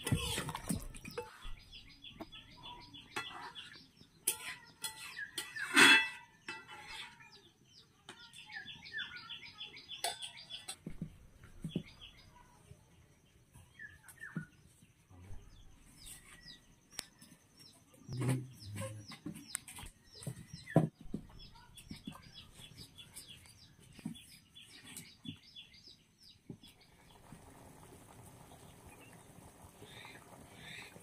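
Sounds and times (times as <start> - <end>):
birds chirping: 0.0 - 6.6, 7.2 - 31.0.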